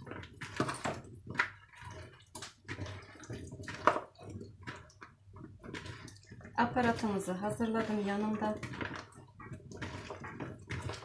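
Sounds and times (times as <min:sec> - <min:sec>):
wet squishing of tossed vegetables: 0:00.0 - 0:11.0.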